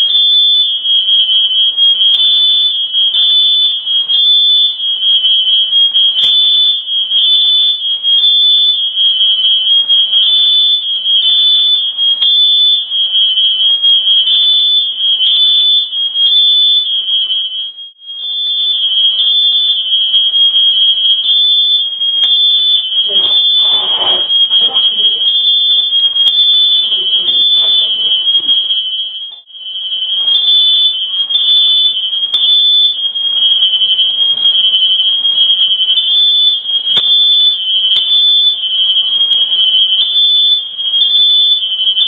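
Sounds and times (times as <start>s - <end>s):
smoke alarm beeping: 0.0s - 42.0s.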